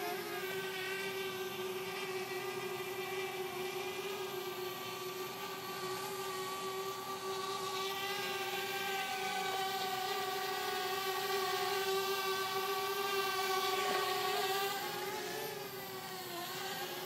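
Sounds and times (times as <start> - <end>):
drone rotors whining: 0.0 - 17.0.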